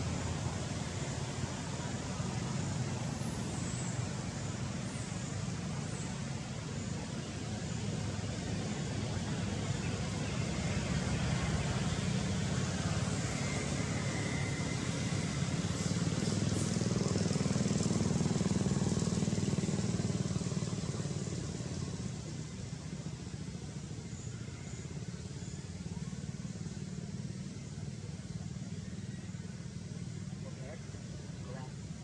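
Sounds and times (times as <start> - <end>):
engine low rumble: 0.0 - 32.0.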